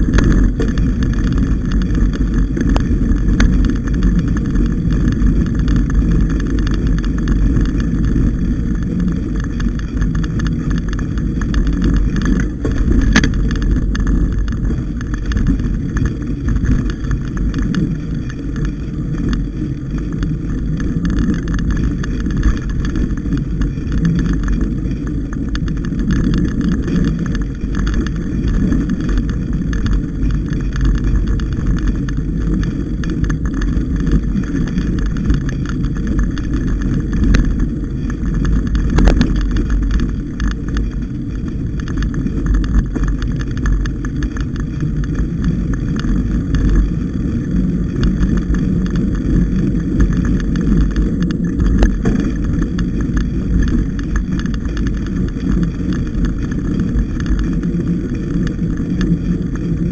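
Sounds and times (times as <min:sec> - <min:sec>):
bike tyre and frame vibration: 0:00.0 - 0:59.9
wind on microphone: 0:00.0 - 0:59.9.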